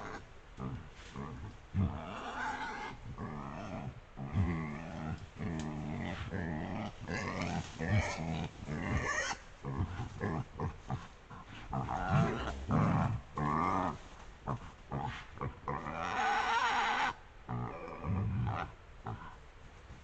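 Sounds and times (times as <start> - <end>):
wild boar grunting and squealing: 0.0 - 19.4.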